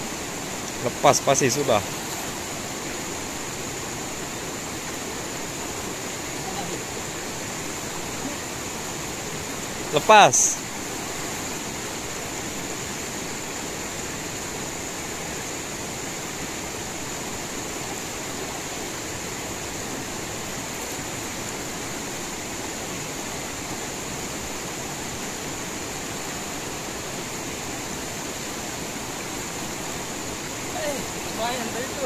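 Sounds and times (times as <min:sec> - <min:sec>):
river rushing over rapids: 0:00.0 - 0:32.0.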